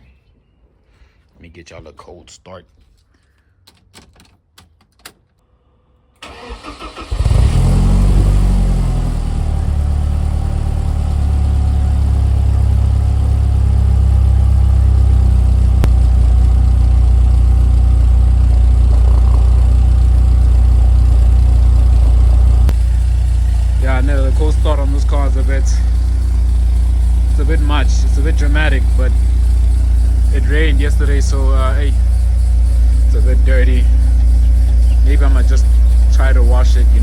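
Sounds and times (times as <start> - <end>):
car engine starting and idling: 6.1 - 37.0.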